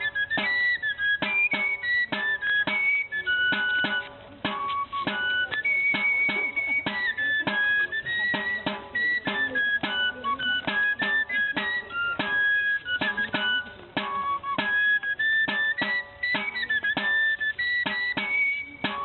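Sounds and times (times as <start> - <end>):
high held-note melody: 0.0 - 19.0
steady percussive beat: 0.0 - 19.0.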